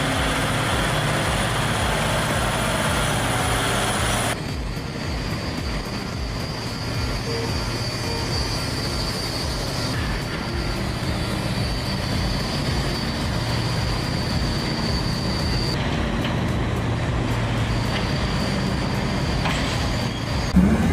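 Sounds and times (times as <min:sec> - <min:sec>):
diesel engine droning: 0:00.0 - 0:20.9
thin high whine: 0:00.0 - 0:20.9.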